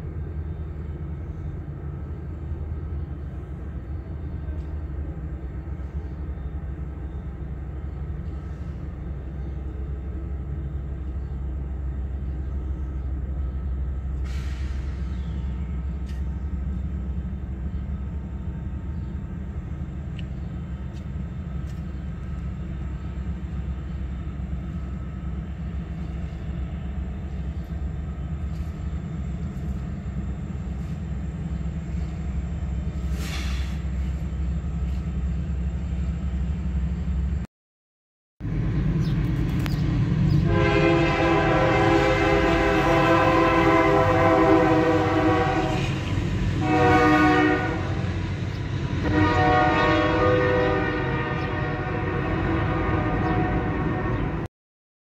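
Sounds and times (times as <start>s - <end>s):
diesel locomotive engines rumbling: 0.0s - 37.5s, 38.4s - 54.5s.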